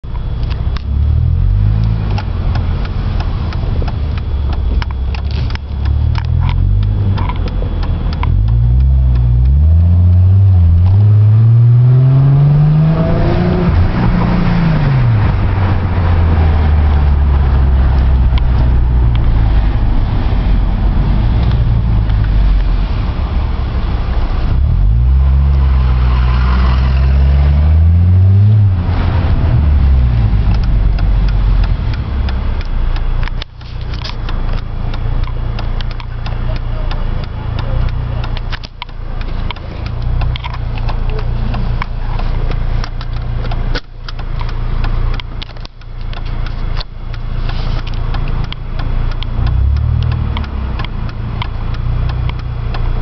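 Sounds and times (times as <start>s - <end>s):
car engine through exhaust: 0.0s - 53.0s.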